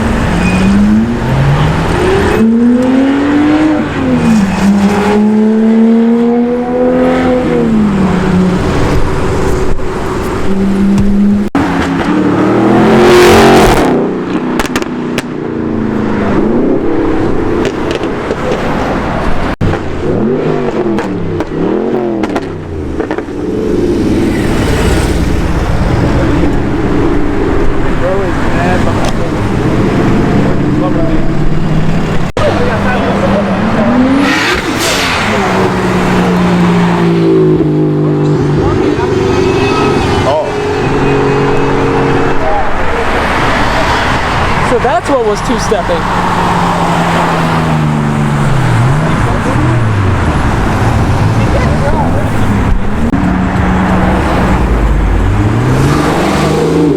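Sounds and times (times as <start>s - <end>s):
car engines revving: 0.0s - 56.9s
car passing with exhaust rush: 0.0s - 56.9s.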